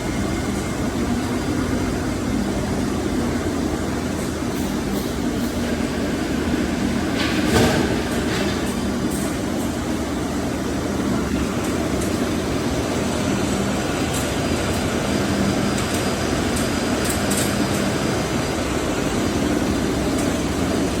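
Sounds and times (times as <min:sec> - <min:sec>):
industrial machinery hum: 0:00.0 - 0:21.0.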